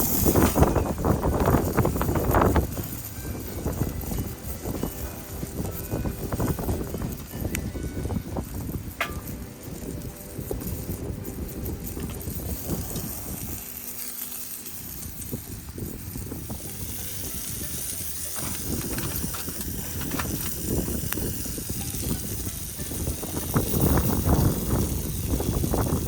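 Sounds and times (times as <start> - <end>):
wind rumble on microphone: 0.0 - 26.0
wood fire crackling: 0.0 - 26.0.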